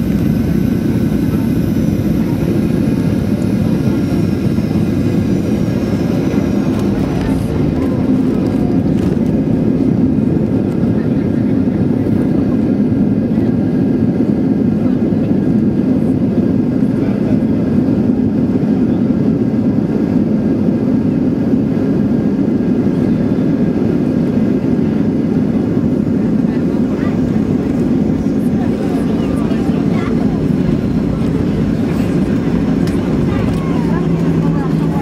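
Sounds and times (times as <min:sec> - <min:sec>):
jet engine cabin rumble: 0:00.0 - 0:35.0.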